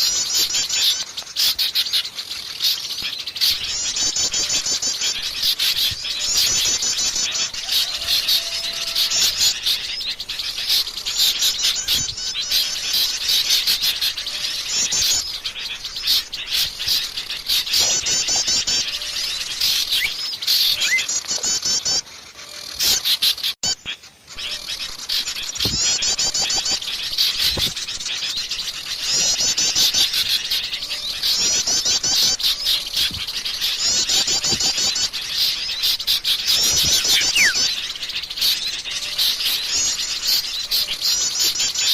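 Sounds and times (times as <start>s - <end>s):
birds chirping and trilling: 0.0s - 41.9s.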